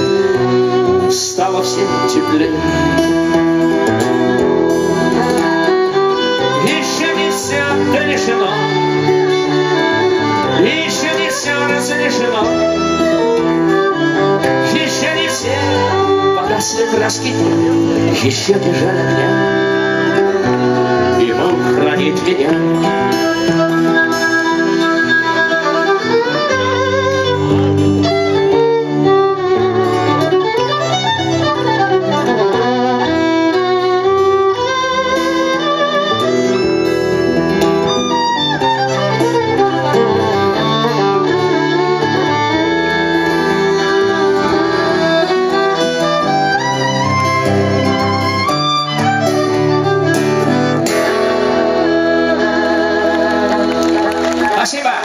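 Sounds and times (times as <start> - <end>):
bass: 0.0 - 54.6
acoustic guitar: 0.0 - 54.8
violin melody: 0.0 - 55.0.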